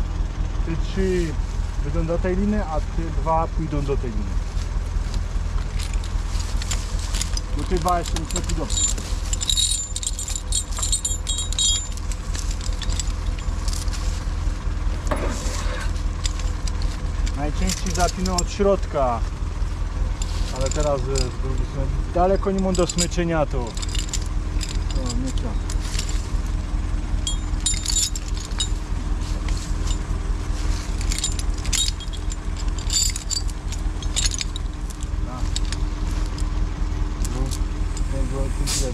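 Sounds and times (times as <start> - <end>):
engine running low: 0.0 - 38.9
steel chains clinking: 5.0 - 36.6, 37.2 - 38.9.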